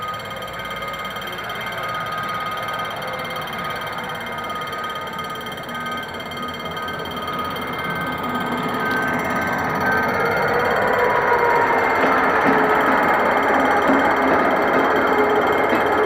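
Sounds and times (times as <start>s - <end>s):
diesel locomotive running: 0.0s - 16.0s
electronic alarm tone: 0.0s - 16.0s
pulsing warning tone: 0.0s - 16.0s.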